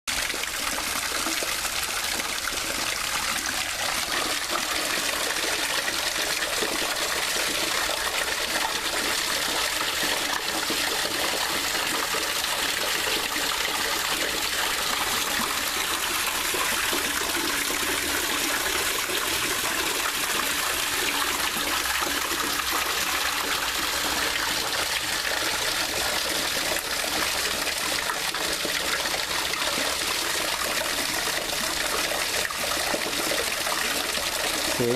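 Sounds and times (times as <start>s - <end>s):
running water trickling: 0.1s - 34.9s.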